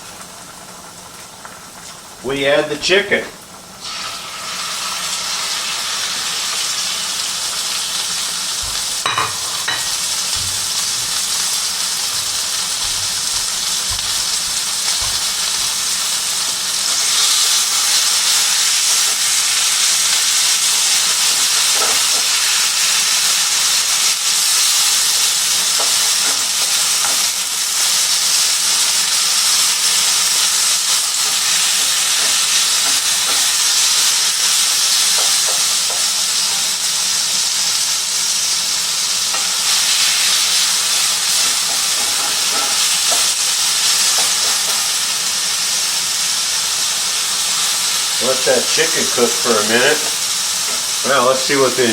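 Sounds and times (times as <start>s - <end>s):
chicken sizzling in hot oil: 0.0s - 51.9s.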